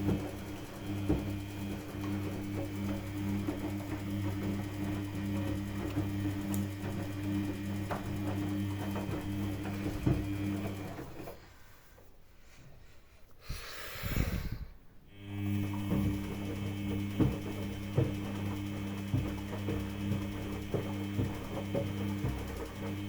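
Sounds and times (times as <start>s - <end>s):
washing machine motor hum: 0.0s - 11.9s, 15.1s - 23.0s.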